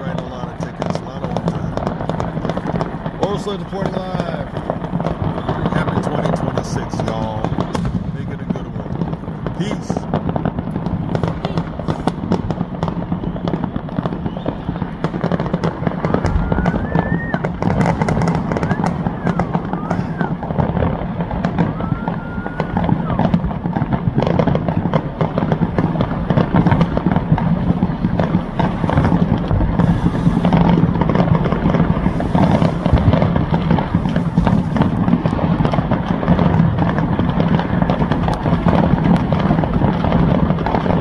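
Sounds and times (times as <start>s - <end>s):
firecrackers crackling: 0.0s - 41.0s
fizzing firework bursts: 0.0s - 41.0s
rising firework whistle: 0.0s - 41.0s.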